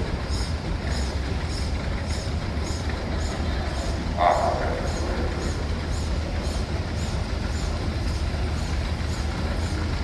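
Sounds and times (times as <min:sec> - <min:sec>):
steam traction engine rumbling: 0:00.0 - 0:10.0.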